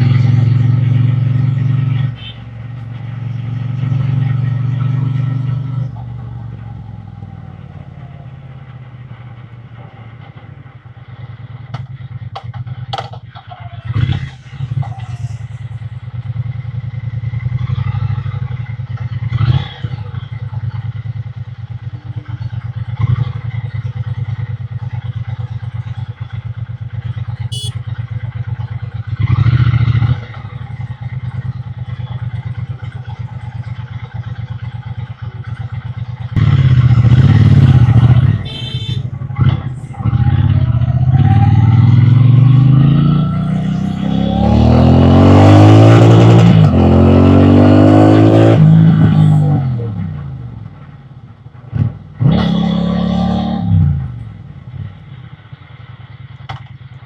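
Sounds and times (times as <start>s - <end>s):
motorcycle engine running: 0.0s - 52.5s, 53.6s - 57.0s.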